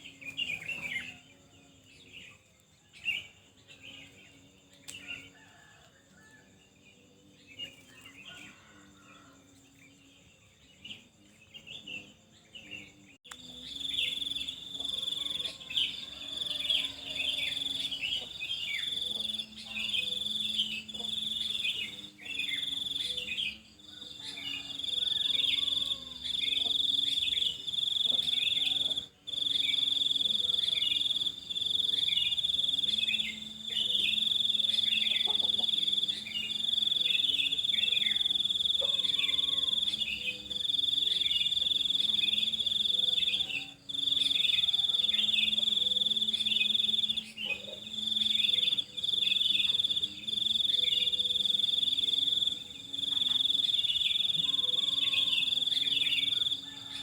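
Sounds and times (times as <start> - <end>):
high-pitched insect trill: 7.6 - 57.0
birds chirping: 10.8 - 57.0.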